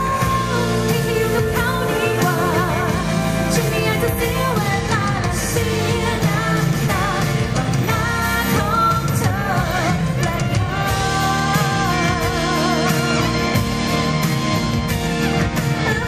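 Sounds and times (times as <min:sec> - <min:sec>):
woman singing: 0:00.0 - 0:13.7, 0:15.7 - 0:16.0
electric bass: 0:00.0 - 0:16.0
keyboard: 0:00.0 - 0:16.0.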